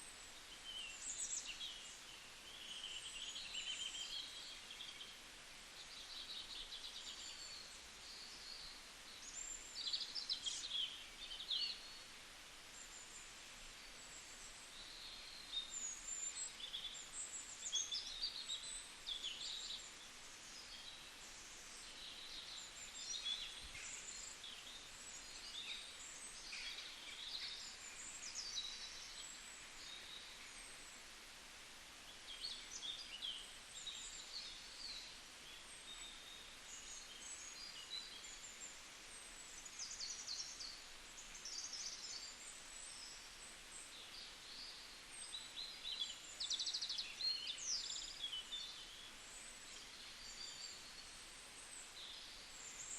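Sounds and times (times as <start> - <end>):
faint background hiss: 0.0 - 52.9
songbirds chirping: 0.0 - 52.9.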